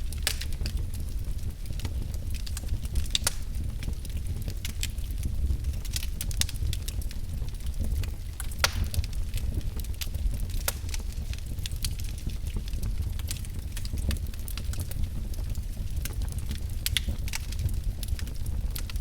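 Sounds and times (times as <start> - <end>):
low rumble of flames: 0.0 - 19.0
wood fire crackling: 0.0 - 19.0
sharp pops from fire: 0.1 - 1.0, 1.8 - 5.0, 7.9 - 19.0.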